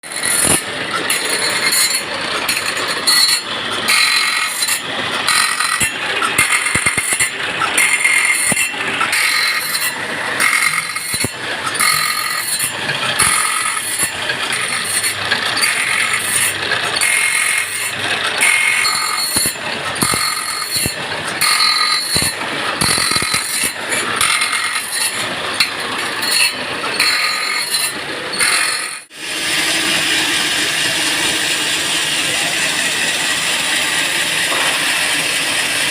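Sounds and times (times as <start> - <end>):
machine whining: 0.0 - 35.9
sawmill machinery rattling: 0.0 - 35.9.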